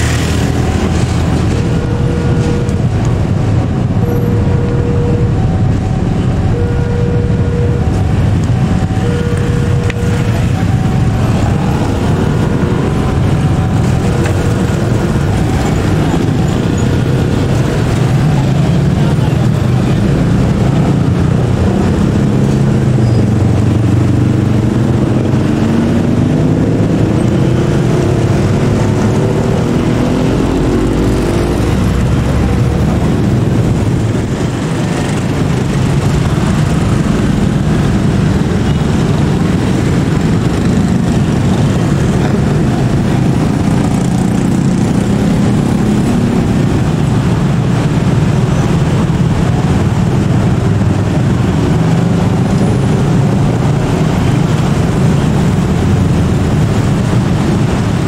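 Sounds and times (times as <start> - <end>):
motorcycle and traffic engines: 0.0 - 58.0.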